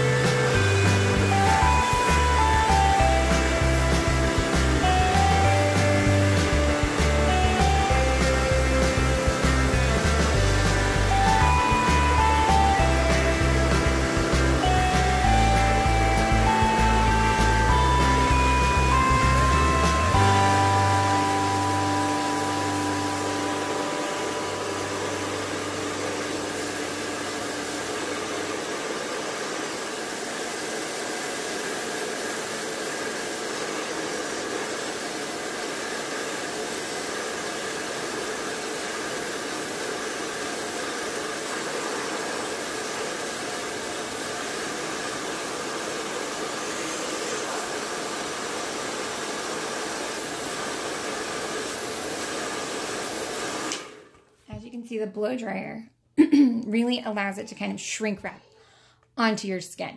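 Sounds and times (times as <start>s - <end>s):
blow dryer running: 0.0s - 54.3s.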